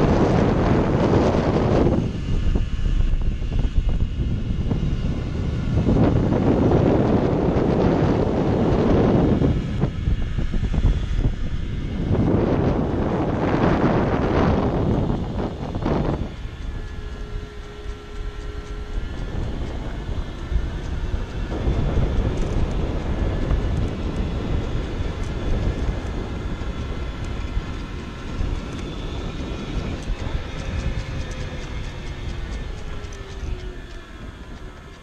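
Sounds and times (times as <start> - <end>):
scooter engine rumble: 0.0 - 35.0
wind buffeting microphone: 0.0 - 35.0.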